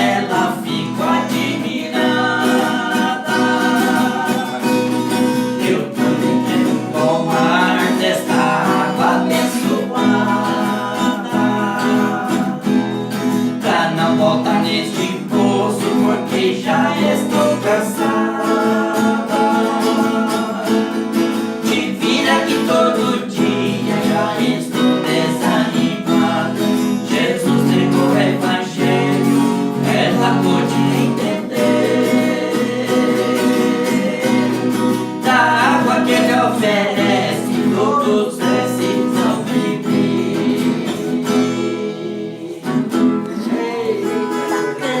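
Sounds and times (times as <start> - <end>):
acoustic guitar strummed: 0.0 - 45.0
voices singing praise song: 0.0 - 45.0.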